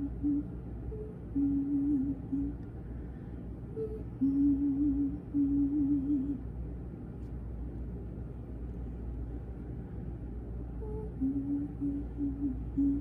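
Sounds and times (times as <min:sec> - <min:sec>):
low rumble of room noise: 0:00.0 - 0:13.0.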